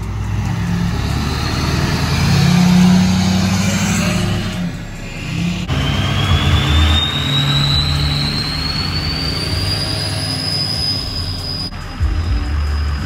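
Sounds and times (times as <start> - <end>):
diesel truck engine pulling away: 0.0 - 13.0
turbocharger whistle: 0.6 - 13.0.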